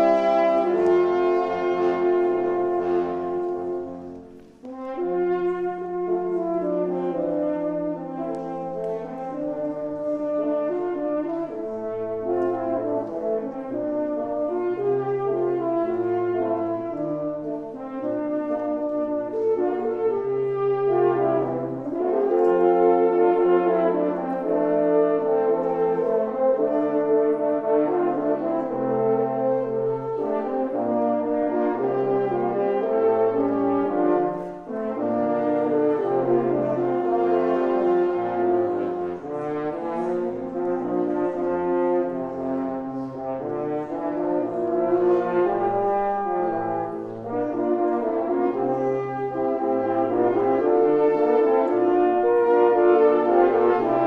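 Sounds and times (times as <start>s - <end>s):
french horn ensemble playing: 0.0s - 54.0s.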